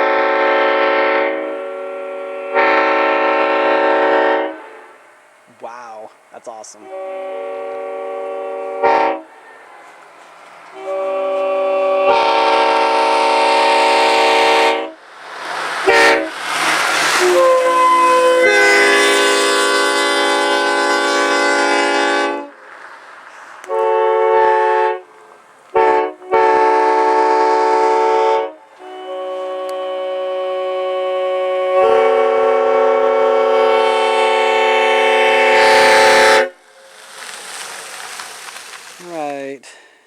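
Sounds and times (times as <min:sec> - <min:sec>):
train air horn blasts: 0:00.0 - 0:05.3, 0:06.6 - 0:15.0, 0:15.8 - 0:16.4, 0:17.0 - 0:22.6, 0:23.4 - 0:39.1.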